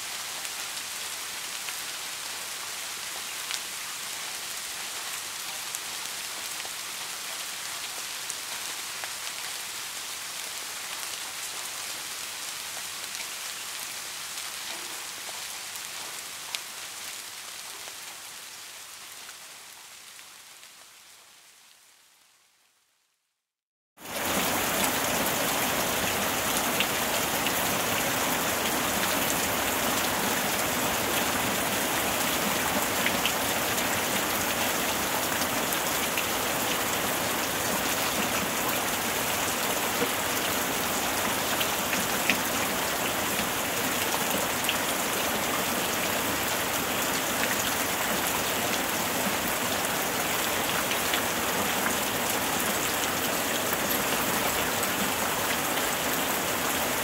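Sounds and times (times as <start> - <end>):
steady rain hiss: 0.0 - 23.1, 24.0 - 57.0.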